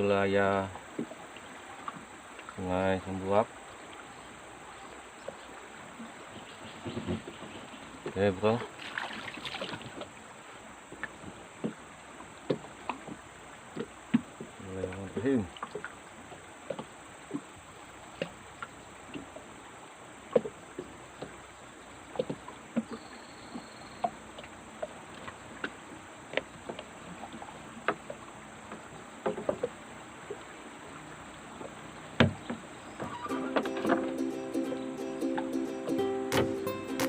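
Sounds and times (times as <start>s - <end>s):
continuous high hiss: 0.0s - 37.0s
flooded river water noise: 0.0s - 37.0s.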